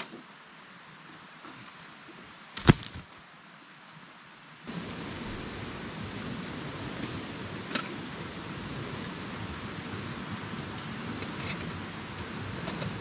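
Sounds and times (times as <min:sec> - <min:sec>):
forest ambience hiss: 0:00.0 - 0:13.0.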